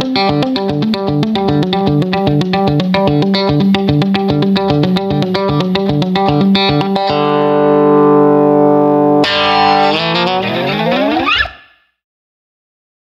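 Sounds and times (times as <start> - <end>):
electric guitar notes: 0.0 - 11.9.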